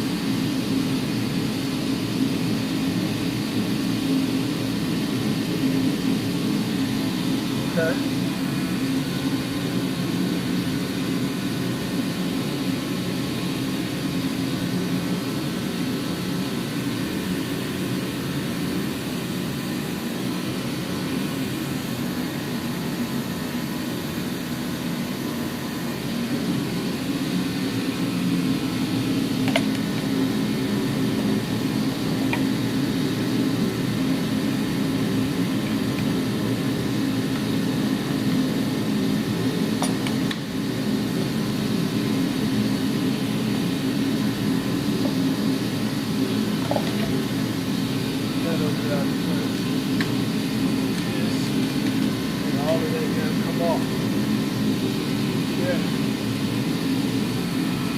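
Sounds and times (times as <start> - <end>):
low mechanical whir: 0.0 - 57.9.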